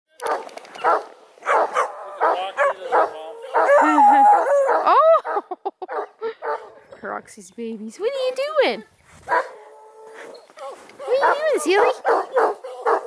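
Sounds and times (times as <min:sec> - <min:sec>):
puppies baying and barking: 0:00.2 - 0:07.0, 0:09.2 - 0:13.0.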